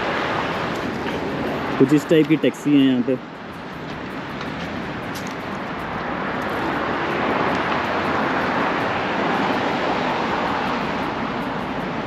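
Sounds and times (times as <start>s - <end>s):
car passing on street: 0.0s - 12.0s.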